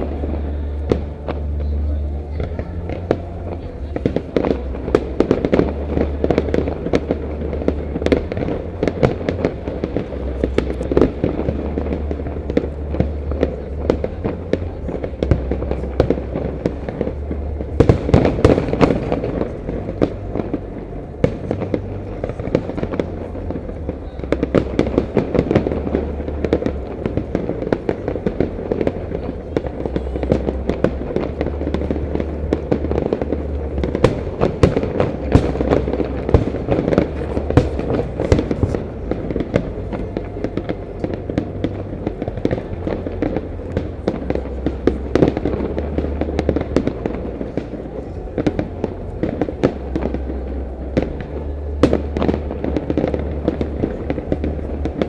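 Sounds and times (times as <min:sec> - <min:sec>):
fireworks crackling and banging: 0:00.0 - 0:55.0
steady low drone: 0:00.0 - 0:55.0.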